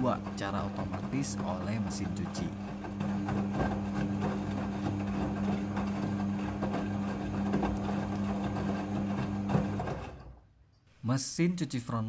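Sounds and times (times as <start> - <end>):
washing machine motor hum: 0.0 - 10.4.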